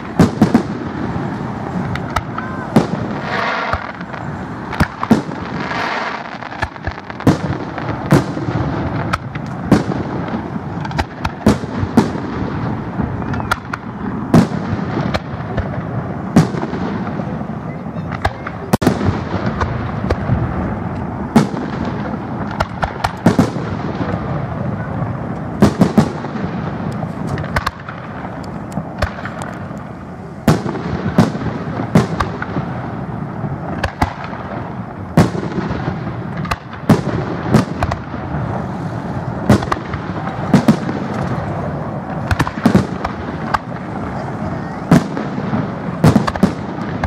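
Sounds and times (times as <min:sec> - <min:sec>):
firework shells bursting: 0:00.0 - 0:17.4, 0:18.1 - 0:47.0
background rumble: 0:00.0 - 0:47.0.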